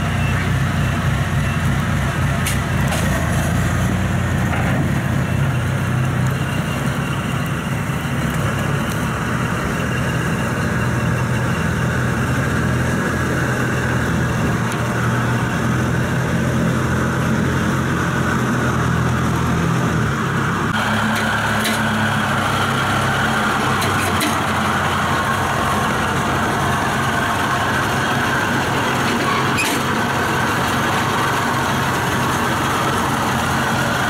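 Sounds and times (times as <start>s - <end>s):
combine harvester diesel engine: 0.0s - 34.0s.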